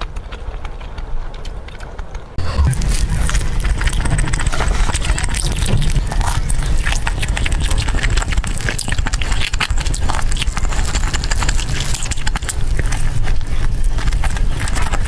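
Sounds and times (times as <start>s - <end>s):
steady low hum: 0.0s - 15.0s
wet chewing and mouth-smacking: 0.0s - 15.0s.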